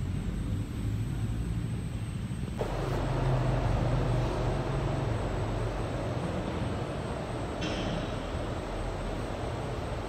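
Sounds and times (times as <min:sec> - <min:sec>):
hissy ambience: 0:00.0 - 0:10.0
low rumble of room ambience: 0:00.0 - 0:10.0.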